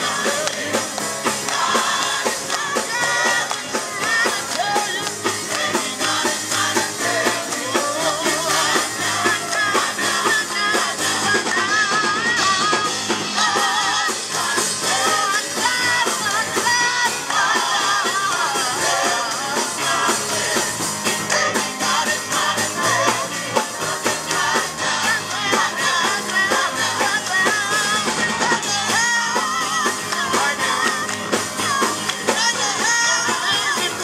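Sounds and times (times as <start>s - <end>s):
drum kit: 0.0s - 34.0s
gospel choir singing: 0.0s - 34.0s
lead singer on microphone: 0.0s - 34.0s.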